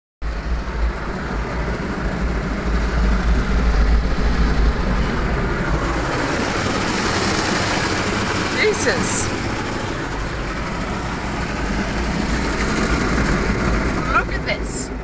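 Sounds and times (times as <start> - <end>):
car wash deep rumble: 0.2 - 15.0.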